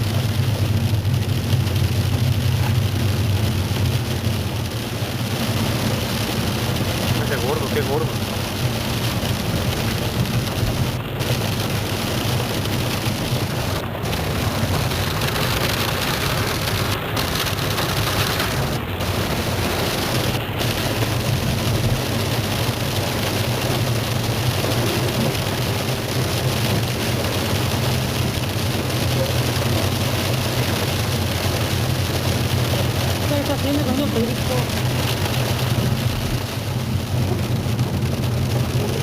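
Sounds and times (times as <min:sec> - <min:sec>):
hail and rain pelting down: 0:00.0 - 0:39.0.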